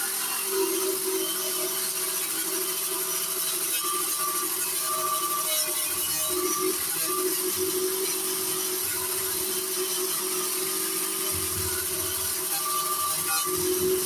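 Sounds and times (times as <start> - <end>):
grinder motor running: 0.0 - 14.0.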